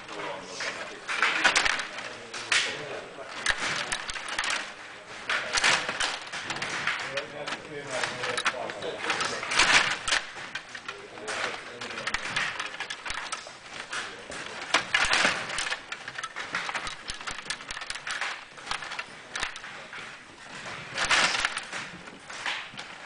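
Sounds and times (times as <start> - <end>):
table hockey game clattering: 0.0 - 23.0.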